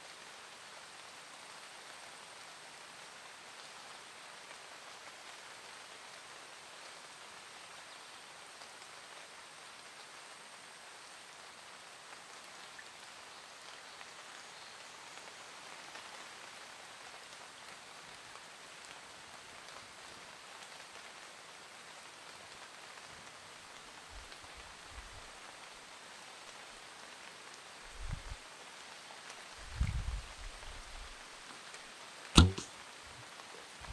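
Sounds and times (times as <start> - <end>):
rain falling on leaves: 0.0 - 33.9.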